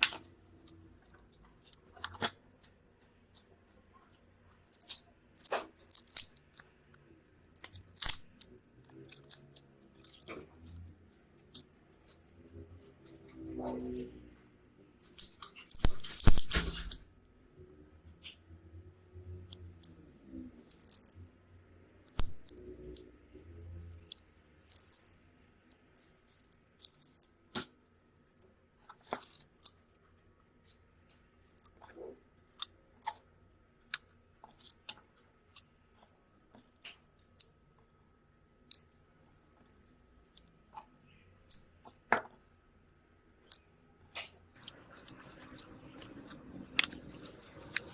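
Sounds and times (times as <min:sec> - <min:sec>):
small parts and tools clattering: 0:00.0 - 0:12.2, 0:14.9 - 0:17.3, 0:19.2 - 0:21.4, 0:22.1 - 0:38.0, 0:38.6 - 0:42.6, 0:43.4 - 0:47.9.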